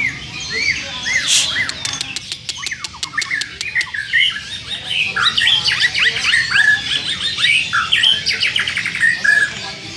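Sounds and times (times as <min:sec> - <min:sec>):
caged birds squawking and chirping: 0:00.0 - 0:09.9.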